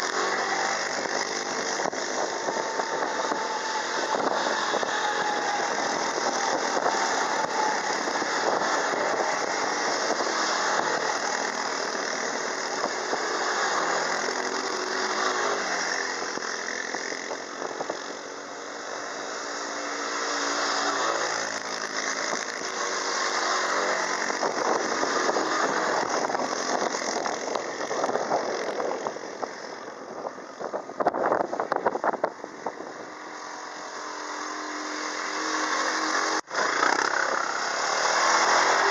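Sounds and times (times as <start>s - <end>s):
quad bike engine running: 0.0s - 38.9s
steady rushing noise: 0.0s - 38.9s.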